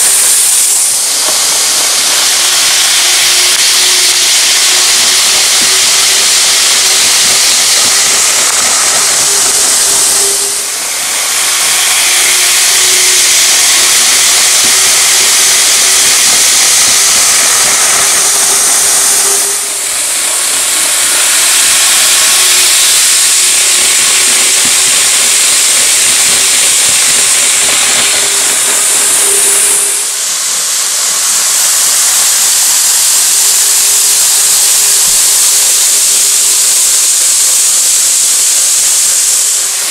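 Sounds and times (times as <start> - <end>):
model train running hiss: 0.0 - 39.9.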